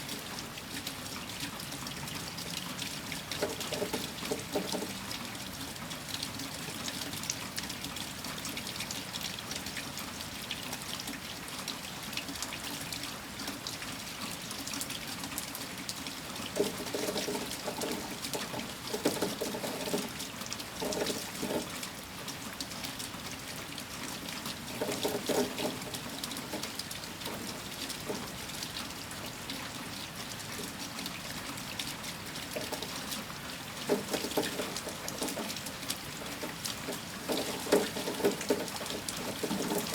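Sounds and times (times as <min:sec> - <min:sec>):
steady rain falling: 0:00.0 - 0:39.9
water pouring and trickling: 0:00.0 - 0:39.9.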